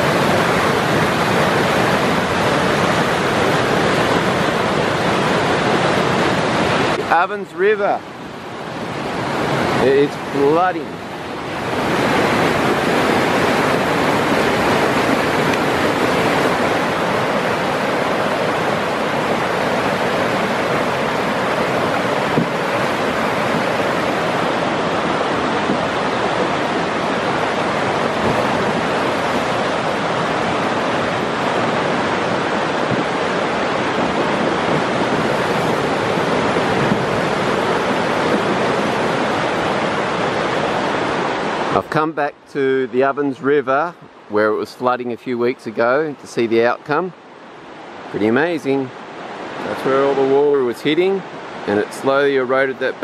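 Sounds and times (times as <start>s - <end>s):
flooded river rushing: 0.0s - 53.0s.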